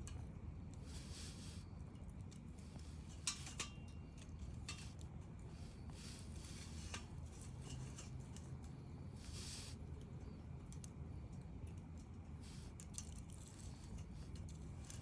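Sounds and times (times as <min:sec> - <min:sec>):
low rumble of flames: 0:00.0 - 0:15.0.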